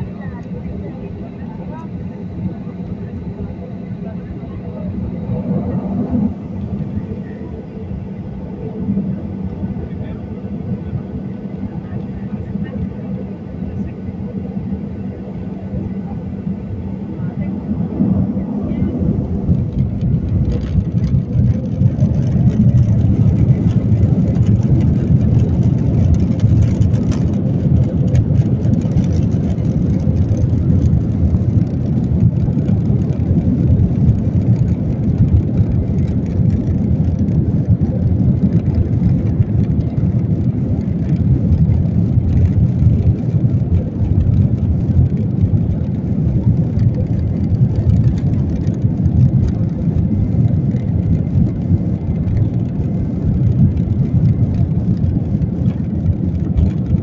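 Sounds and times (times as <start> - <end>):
jet engines rumbling on takeoff: 0.0 - 57.0.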